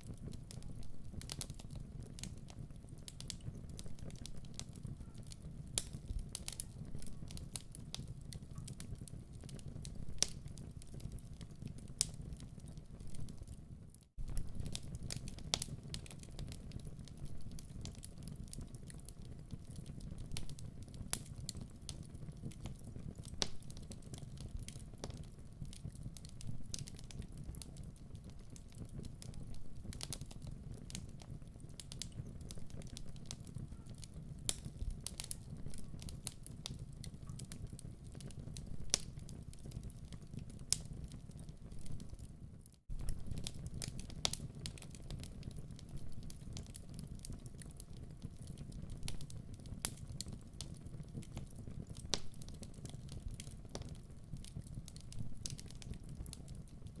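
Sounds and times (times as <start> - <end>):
fire low rumble: 0.0 - 57.0
wood fire crackling and popping: 0.0 - 57.0.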